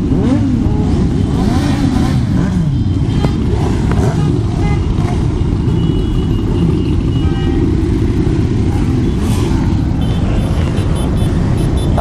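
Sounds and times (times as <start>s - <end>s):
motorcycles rumbling in convoy: 0.0s - 12.0s.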